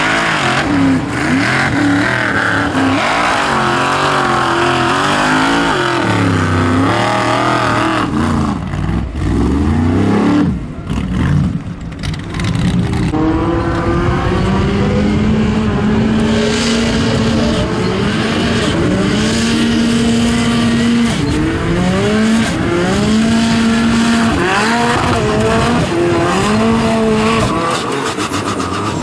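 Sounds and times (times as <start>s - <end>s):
buggy engine revving: 0.0s - 29.0s.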